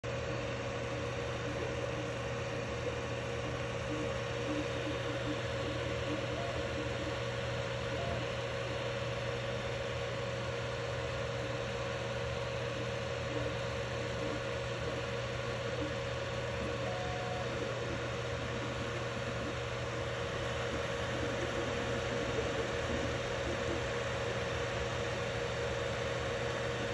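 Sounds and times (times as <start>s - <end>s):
constant hum: 0.0s - 26.9s
cooling fans whirring: 0.0s - 26.9s.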